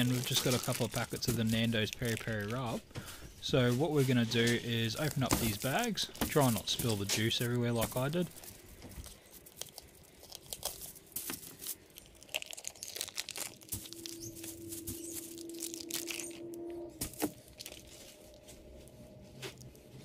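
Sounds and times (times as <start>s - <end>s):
plastic crinkling and tearing: 0.0s - 2.9s, 4.1s - 18.6s.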